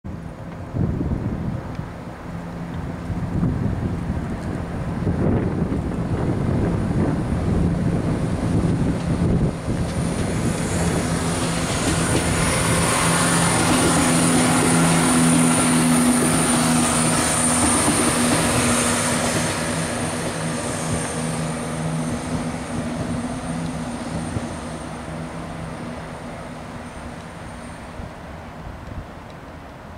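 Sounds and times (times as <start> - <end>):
diesel engine hum: 0.1 - 29.9
train wheels rumbling on rail: 0.2 - 29.9.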